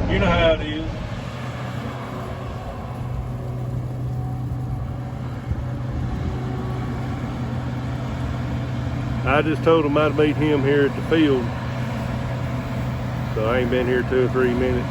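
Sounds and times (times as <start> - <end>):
truck engine running: 0.0 - 14.9.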